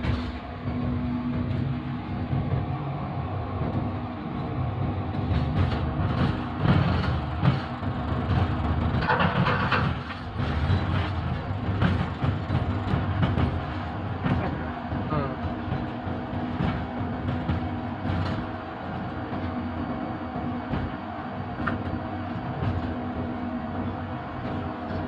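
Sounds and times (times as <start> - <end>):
locomotive engine drone: 0.0 - 25.0.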